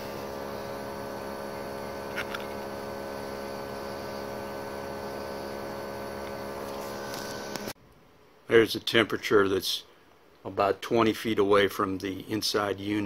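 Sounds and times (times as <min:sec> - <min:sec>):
air conditioner outdoor unit humming: 0:00.0 - 0:13.0.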